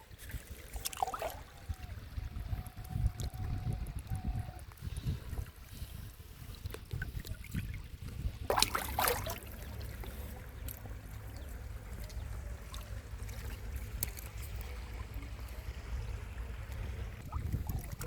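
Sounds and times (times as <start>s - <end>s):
water splashing and trickling: 0.0s - 18.0s
steady low rumble: 1.4s - 18.0s.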